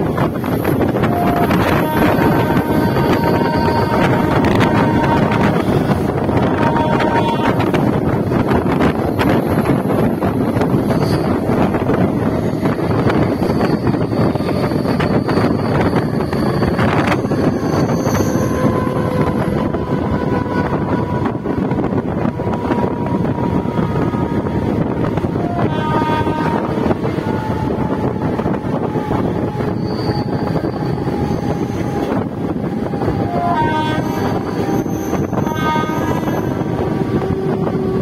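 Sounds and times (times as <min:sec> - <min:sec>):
train wheels rumbling on track: 0:00.0 - 0:38.0
wind: 0:00.0 - 0:38.0.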